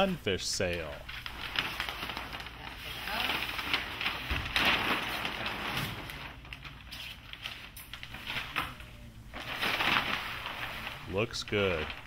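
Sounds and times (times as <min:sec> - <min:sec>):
sailcloth rustling and crinkling: 0:00.0 - 0:12.0.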